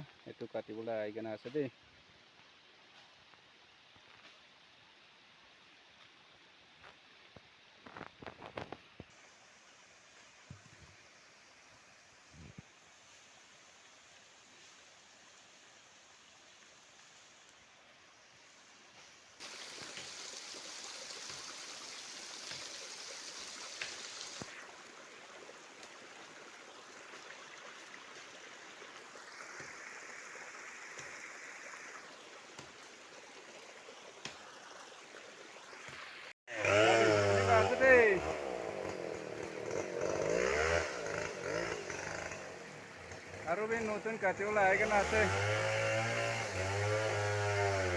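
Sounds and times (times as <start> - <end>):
faint steady hiss: 0.0 - 38.3, 42.2 - 45.3.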